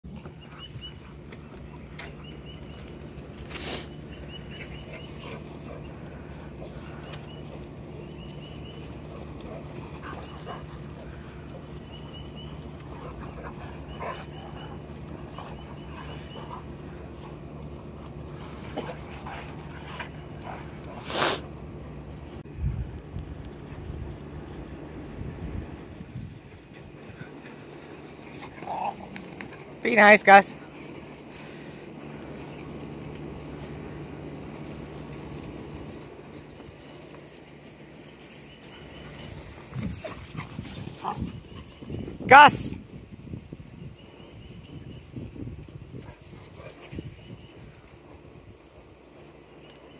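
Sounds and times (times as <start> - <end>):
dogs panting: 0.1 - 22.4, 26.4 - 42.1, 45.8 - 49.9
low steady rumble: 0.1 - 29.9, 30.5 - 49.9
steady low hum: 0.1 - 29.9, 30.5 - 49.9.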